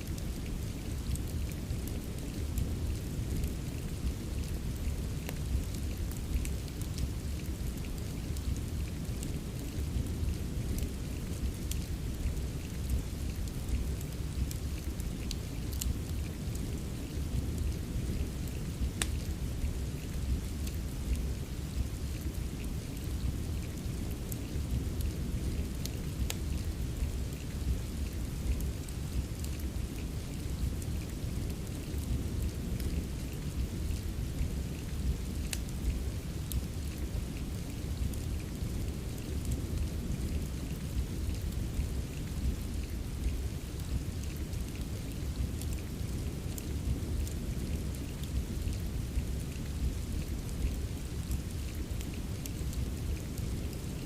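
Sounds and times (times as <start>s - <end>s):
steady rain: 0.0s - 54.0s
wood fire crackling: 0.0s - 54.0s.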